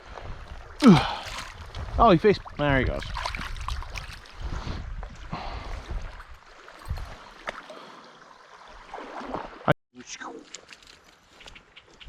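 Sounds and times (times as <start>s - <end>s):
stream water sloshing and gurgling: 0.0s - 12.0s.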